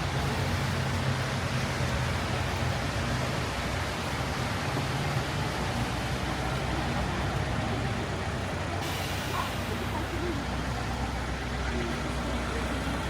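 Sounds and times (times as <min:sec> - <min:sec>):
rain hiss on street: 0:00.0 - 0:13.0
traffic rumble: 0:00.0 - 0:13.0.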